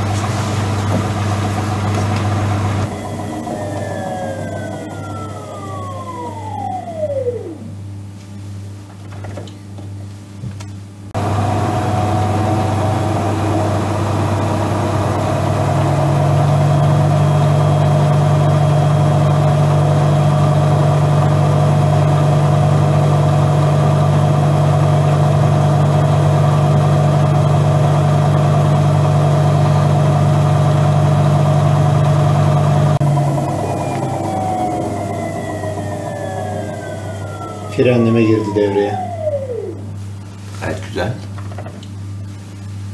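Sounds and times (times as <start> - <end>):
strong steady hum: 0.0 - 8.0, 11.2 - 40.9
washing machine spinning whine: 0.0 - 42.9.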